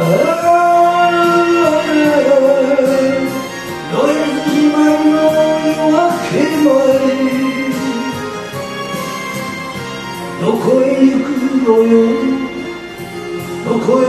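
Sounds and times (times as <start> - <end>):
backing track: 0.0 - 14.0
person singing ballad into microphone: 0.0 - 14.0.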